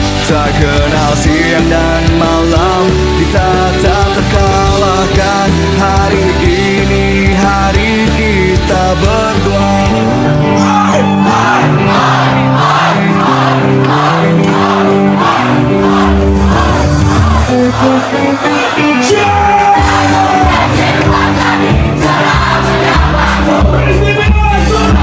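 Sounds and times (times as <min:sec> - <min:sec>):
crowd singing along: 0:00.0 - 0:25.0
live band playing: 0:00.0 - 0:25.0.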